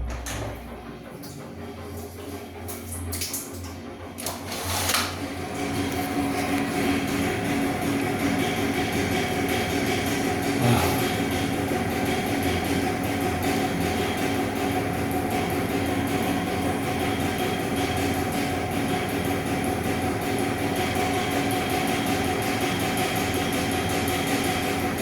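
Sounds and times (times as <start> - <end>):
pulsing mechanical rumble: 0.0 - 20.8.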